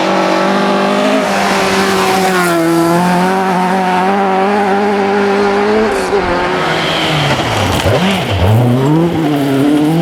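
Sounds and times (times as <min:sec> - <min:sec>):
rally car engine revving high: 0:00.0 - 0:10.0.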